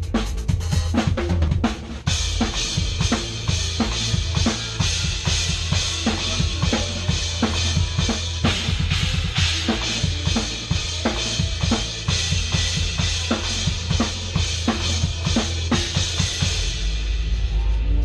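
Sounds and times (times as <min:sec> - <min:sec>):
low bass: 0:00.0 - 0:18.0.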